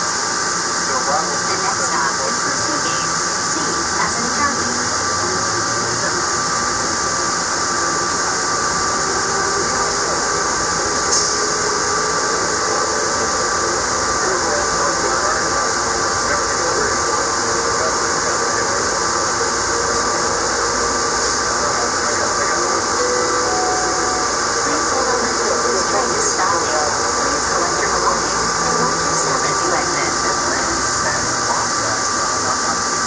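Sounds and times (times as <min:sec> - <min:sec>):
train rushing hiss: 0:00.0 - 0:33.0
train whine: 0:00.0 - 0:33.0.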